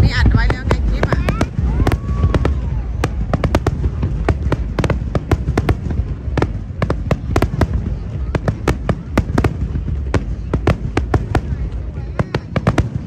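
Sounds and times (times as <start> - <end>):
fireworks bangs and cracks: 0.0 - 13.0
low rumble of distant fireworks: 0.0 - 13.0.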